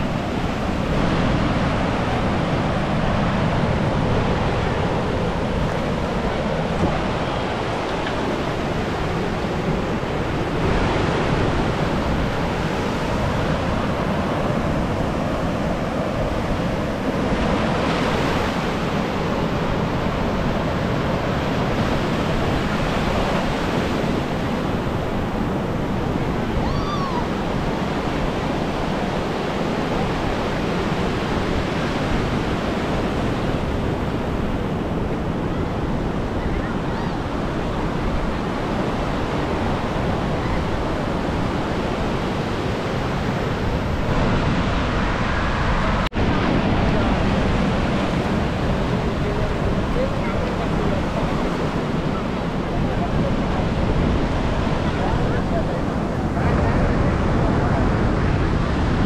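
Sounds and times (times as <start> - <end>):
waves breaking on sand beach: 0.0 - 59.0.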